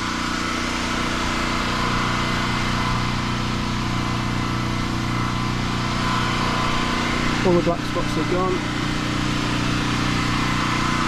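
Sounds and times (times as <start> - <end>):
pressure washer engine idling: 0.0 - 11.0.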